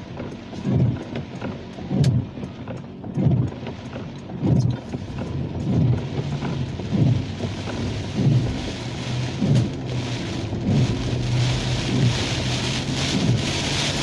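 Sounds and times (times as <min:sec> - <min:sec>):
rain pattering on a car: 0:00.0 - 0:14.0
windscreen wipers thumping and swishing: 0:00.0 - 0:14.0.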